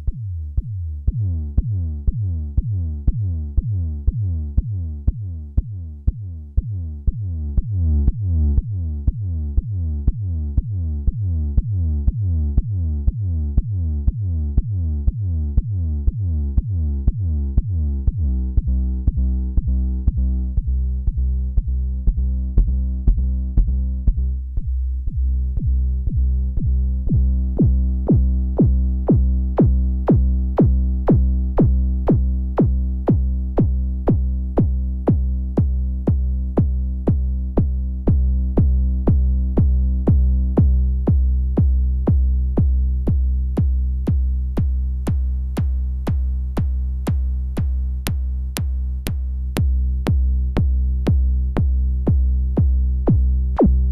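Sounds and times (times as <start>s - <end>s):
droning bass tone: 0.0s - 53.9s
synthesizer plucked bass notes: 0.0s - 53.9s.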